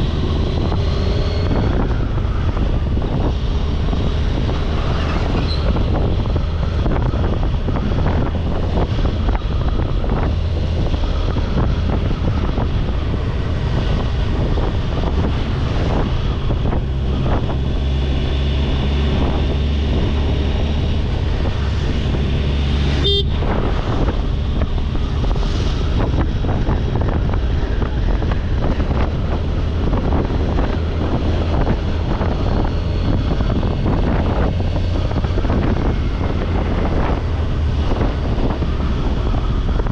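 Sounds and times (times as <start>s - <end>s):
motorcycle engine rumble: 0.0s - 39.9s
wind noise on microphone: 0.0s - 39.9s.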